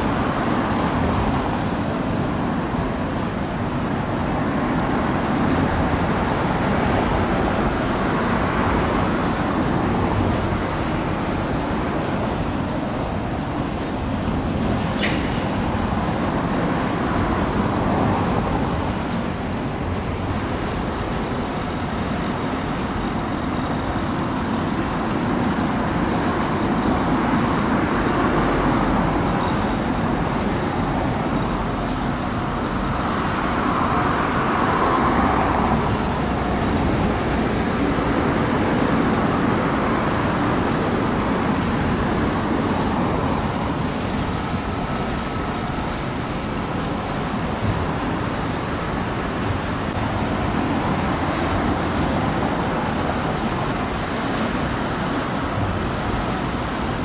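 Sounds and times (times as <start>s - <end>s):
road traffic hum: 0.0s - 57.0s.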